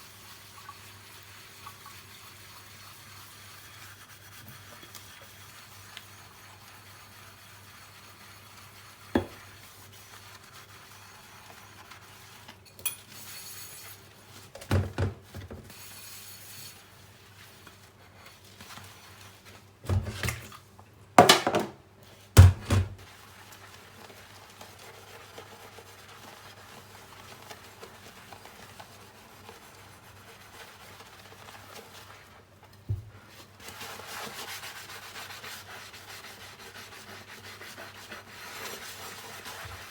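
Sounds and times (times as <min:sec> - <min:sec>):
soft rubbing of dishes: 0:00.1 - 0:20.5, 0:22.9 - 0:39.9.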